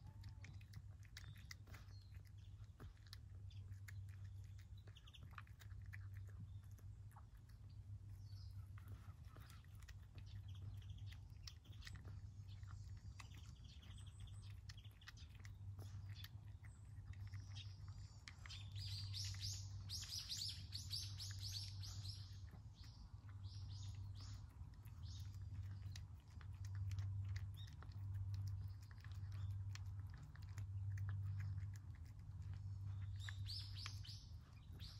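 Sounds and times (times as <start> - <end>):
bird chirping: 0.0 - 34.9
cat chewing food: 0.0 - 34.9
low hum: 0.0 - 34.9.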